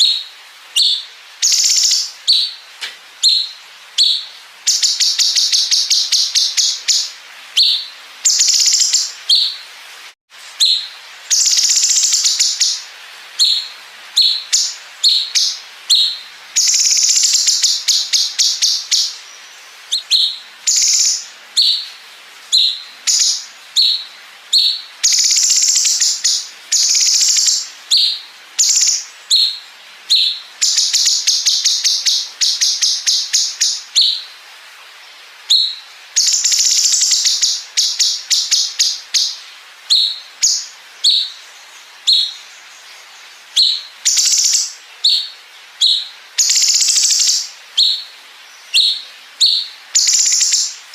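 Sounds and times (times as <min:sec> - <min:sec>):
songbird singing rapid trills: 0:00.0 - 0:09.7, 0:10.5 - 0:34.3, 0:35.5 - 0:50.9.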